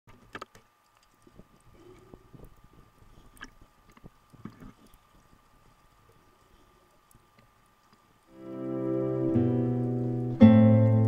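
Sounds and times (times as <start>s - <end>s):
faint high whine: 0.1s - 11.0s.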